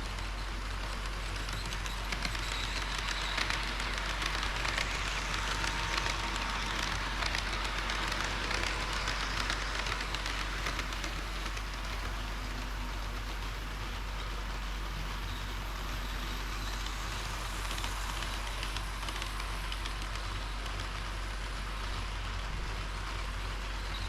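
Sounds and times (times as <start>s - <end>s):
model train rattling on track: 0.0s - 24.0s.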